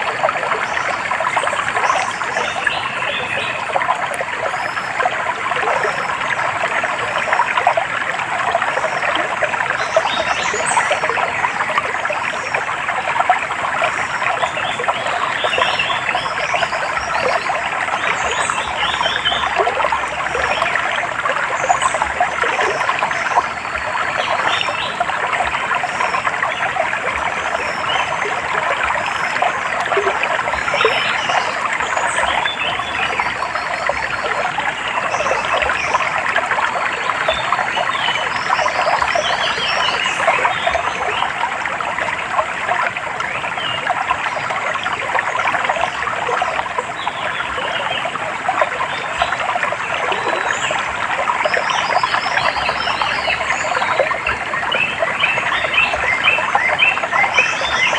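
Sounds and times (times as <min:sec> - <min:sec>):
stream trickling and babbling: 0:00.0 - 0:57.9.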